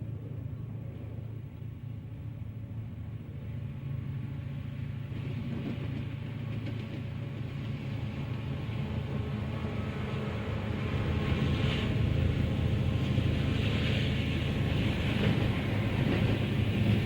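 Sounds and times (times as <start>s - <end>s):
diesel locomotive engine hum: 0.0s - 17.0s
wheel and rail noise: 0.0s - 17.0s.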